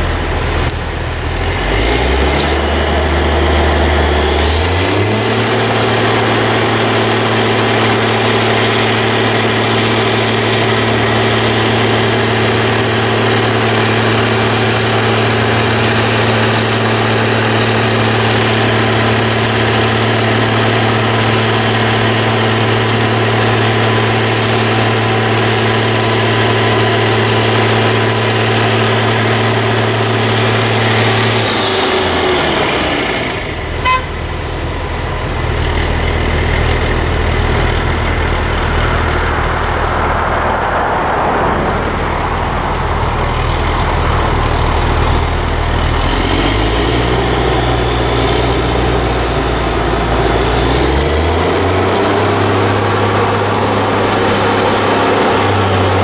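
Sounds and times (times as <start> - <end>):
diesel engine speeding up: 0.0 - 56.0.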